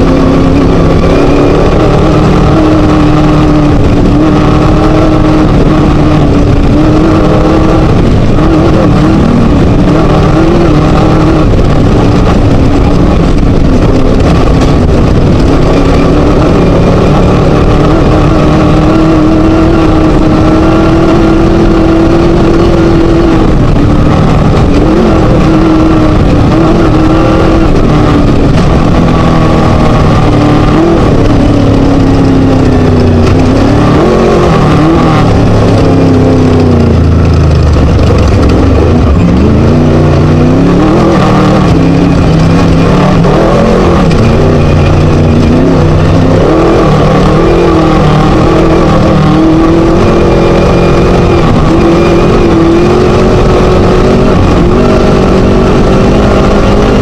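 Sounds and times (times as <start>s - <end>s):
buggy engine revving loudly: 0.0s - 57.0s.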